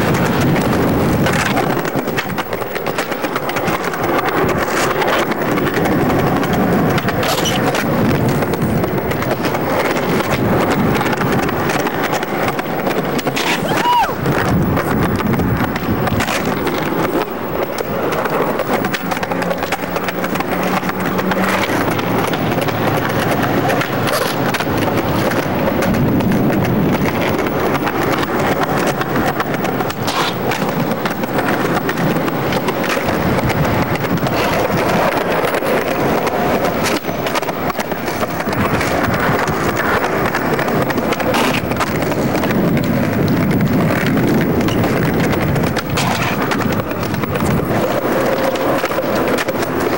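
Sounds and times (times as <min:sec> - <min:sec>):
skateboard tail clacking: 0:00.0 - 0:49.9
skateboard wheels rolling on pavement: 0:00.0 - 0:49.9.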